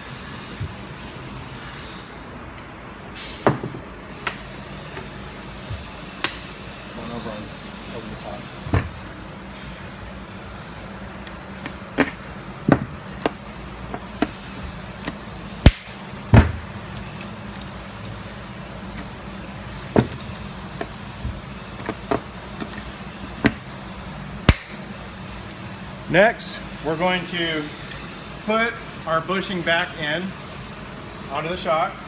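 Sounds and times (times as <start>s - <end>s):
steady low hum: 0.0s - 31.3s.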